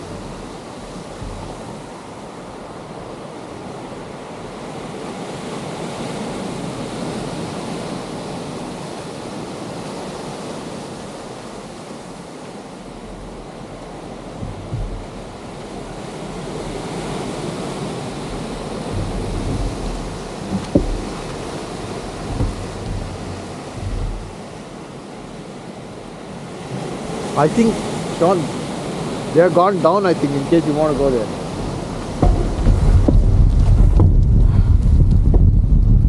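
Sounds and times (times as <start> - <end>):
surf breaking on rocks: 0.0 - 36.0
wind buffeting microphone: 0.0 - 36.0.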